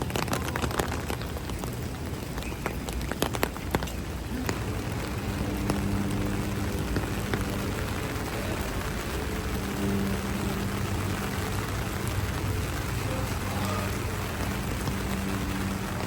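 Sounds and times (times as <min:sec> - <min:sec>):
heavy rain splashing: 0:00.0 - 0:16.0
sharp drip ticks: 0:00.0 - 0:16.0
steady low hum: 0:02.8 - 0:16.0.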